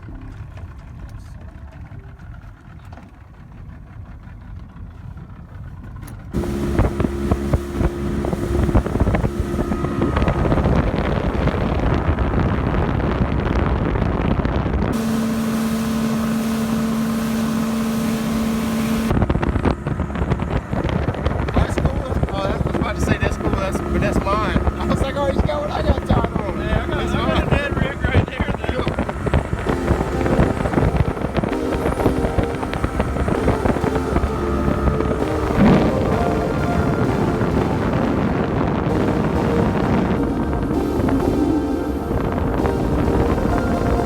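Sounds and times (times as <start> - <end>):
motorboat engine drone: 0.0 - 44.0
steady whine: 6.3 - 44.0
rushing wind and water: 6.4 - 44.0.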